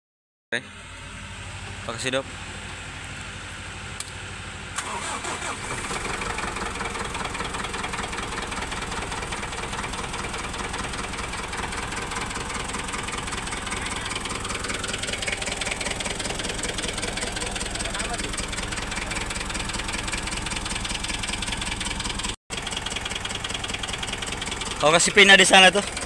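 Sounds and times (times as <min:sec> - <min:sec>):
tractor diesel engine running: 0:00.6 - 0:26.0.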